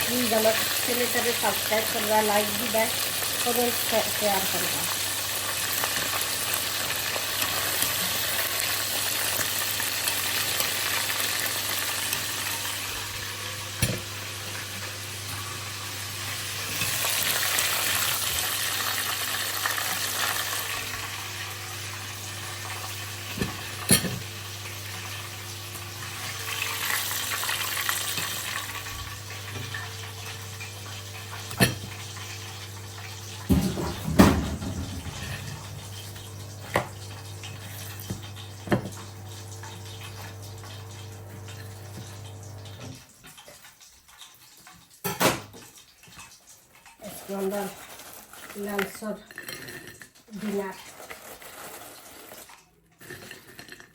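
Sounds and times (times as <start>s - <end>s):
chicken frying in hot oil: 0.0s - 53.9s.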